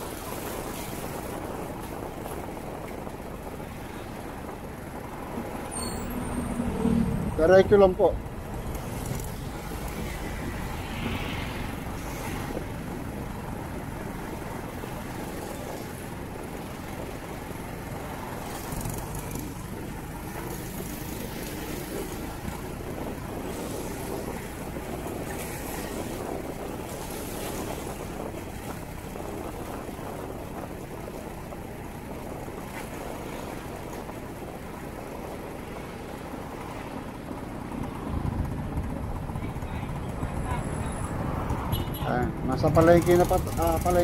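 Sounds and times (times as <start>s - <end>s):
wind and road noise: 0.0s - 44.0s.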